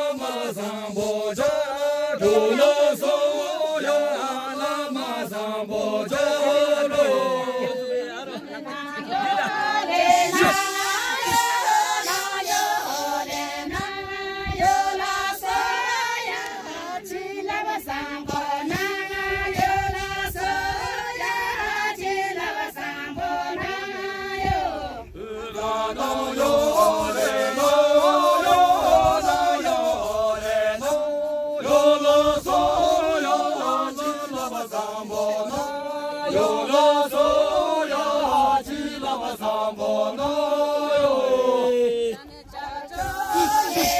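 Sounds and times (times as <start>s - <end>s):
group singing unaccompanied: 0.0s - 43.9s.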